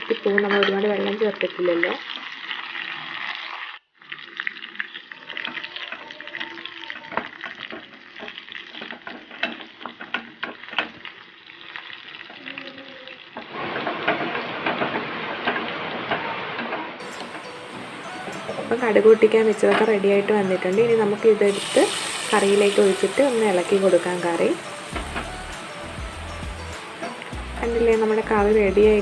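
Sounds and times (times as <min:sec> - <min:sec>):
food sizzling in hot oil: 0:00.0 - 0:15.2, 0:17.0 - 0:29.0.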